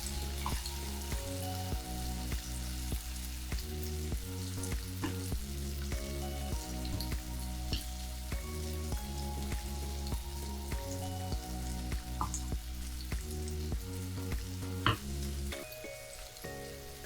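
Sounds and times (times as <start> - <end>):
background music with bass line: 0.0 - 17.0
chicken sizzling in frying pan: 0.0 - 17.0.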